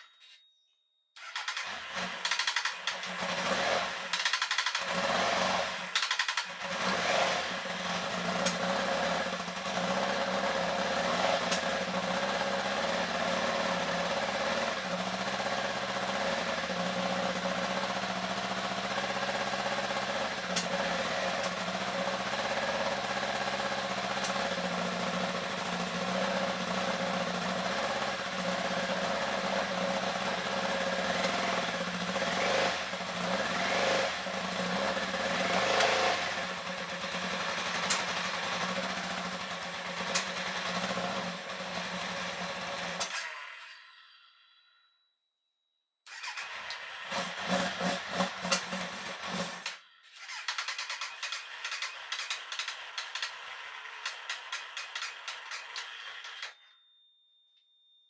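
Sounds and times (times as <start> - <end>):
motorcycle engine idling: 1.3 - 43.1, 46.2 - 56.5.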